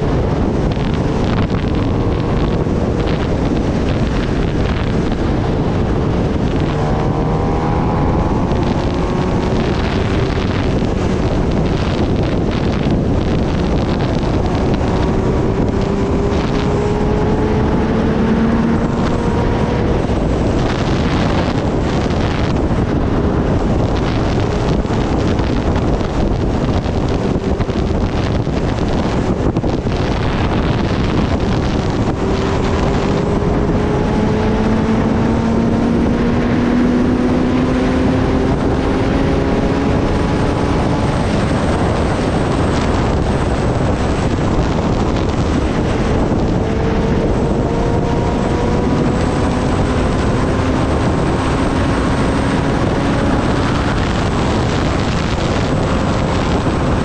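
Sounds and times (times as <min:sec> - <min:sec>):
motorcycle engine accelerating: 0:00.0 - 0:57.0
wind rush on microphone: 0:00.0 - 0:57.0.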